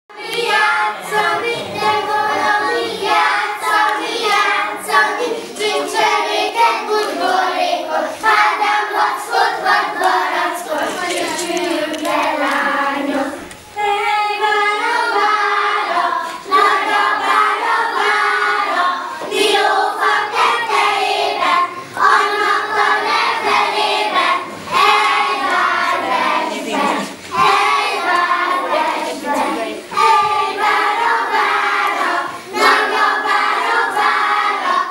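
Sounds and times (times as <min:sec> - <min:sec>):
children singing in unison: 0:00.1 - 0:34.9.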